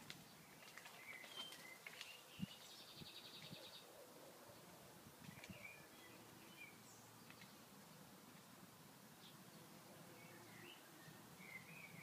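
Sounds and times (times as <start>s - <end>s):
birds chirping: 0.2s - 7.8s, 9.1s - 12.0s.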